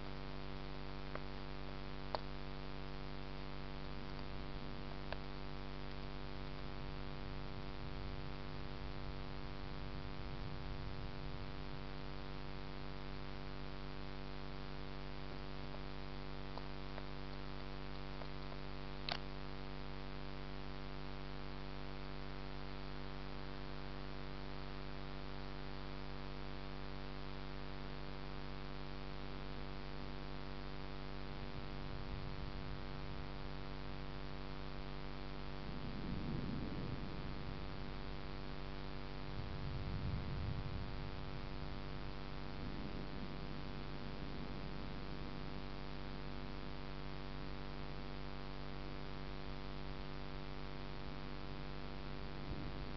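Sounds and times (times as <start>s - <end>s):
buzzy electrical mains hum: 0.0s - 52.9s
faint hiss: 0.0s - 52.9s.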